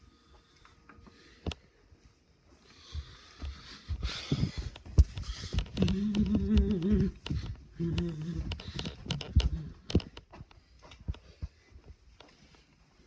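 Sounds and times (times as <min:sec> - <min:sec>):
footsteps: 0:00.2 - 0:13.0.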